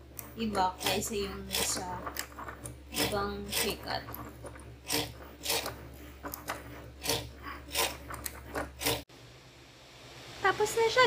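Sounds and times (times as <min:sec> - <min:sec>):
blade carriage strokes: 0:00.0 - 0:09.1.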